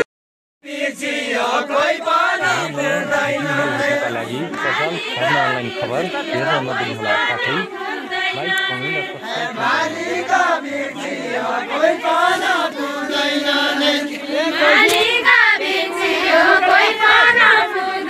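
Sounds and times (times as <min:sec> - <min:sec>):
group of voices singing folk song: 0:00.6 - 0:18.0.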